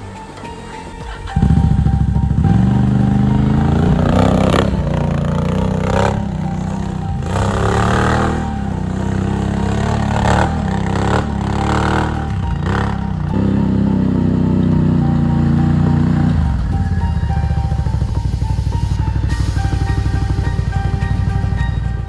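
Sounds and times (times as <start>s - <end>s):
atv engine revving: 1.1s - 22.0s.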